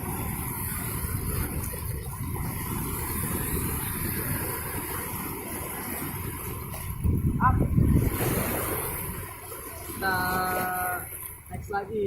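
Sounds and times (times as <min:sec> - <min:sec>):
surf breaking on beach: 0:00.0 - 0:11.1
wind rumble on microphone: 0:00.0 - 0:12.0.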